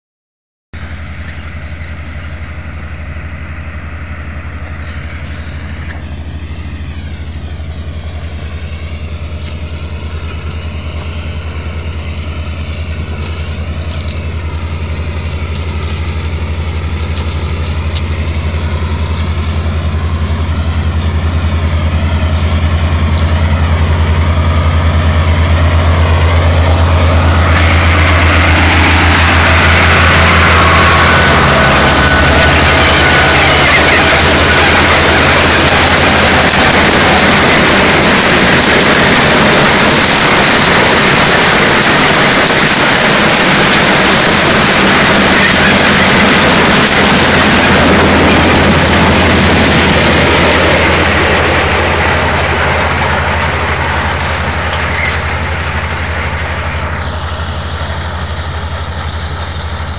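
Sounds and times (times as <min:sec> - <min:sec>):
harvester elevator rattling: 0:00.8 - 0:59.9
tractor engines droning: 0:00.8 - 0:59.9.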